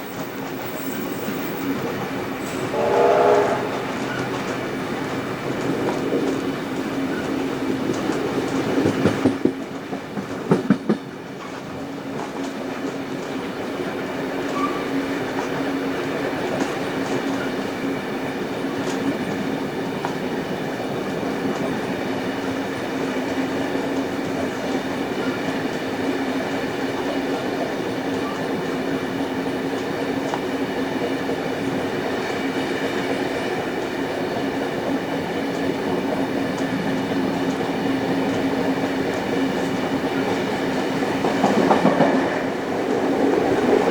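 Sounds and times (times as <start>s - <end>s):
train rolling rumble: 0.0s - 43.9s.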